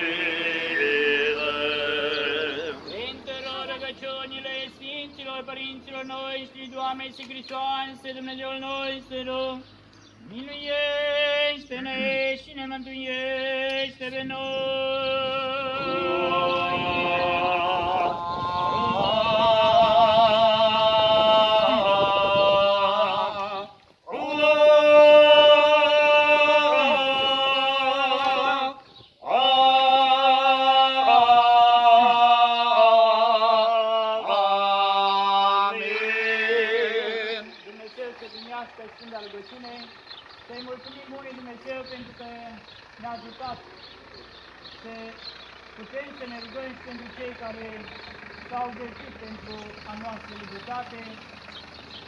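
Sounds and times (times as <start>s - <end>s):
unaccompanied chant singing: 0.0s - 52.0s.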